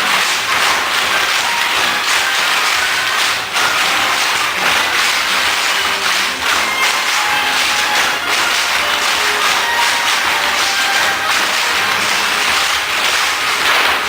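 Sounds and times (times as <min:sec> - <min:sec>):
crowd applauding: 0:00.0 - 0:14.0
faint music: 0:00.0 - 0:14.0.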